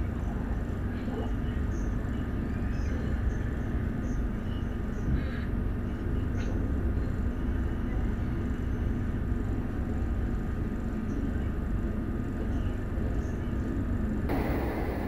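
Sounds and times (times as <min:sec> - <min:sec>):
train rumble and rail noise: 0:00.0 - 0:15.0.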